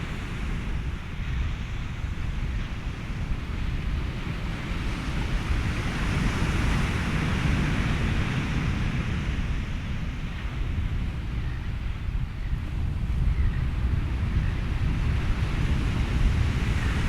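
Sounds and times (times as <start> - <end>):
ocean waves washing: 0.0 - 17.0
steady wind: 0.0 - 17.0.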